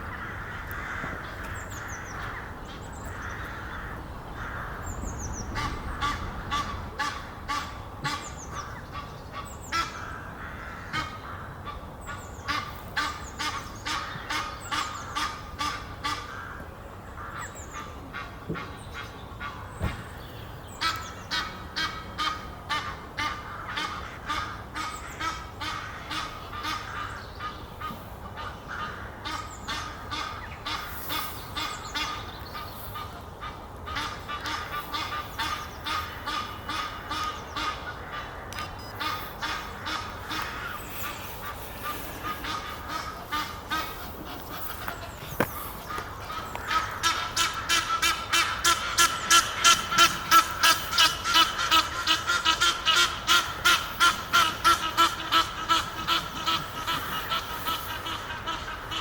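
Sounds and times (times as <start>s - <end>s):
geese honking: 0.0s - 16.6s, 20.8s - 59.0s.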